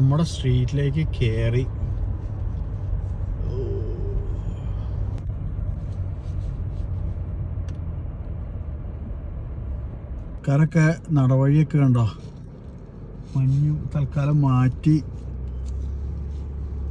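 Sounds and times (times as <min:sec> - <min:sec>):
car engine and tyre rumble: 0:00.0 - 0:16.9.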